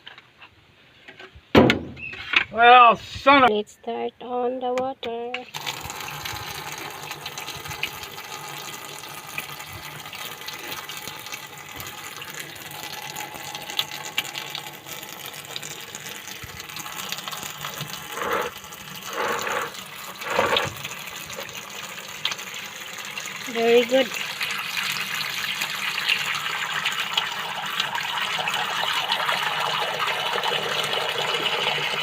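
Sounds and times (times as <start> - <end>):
water running into washing machine: 5.4 - 32.0.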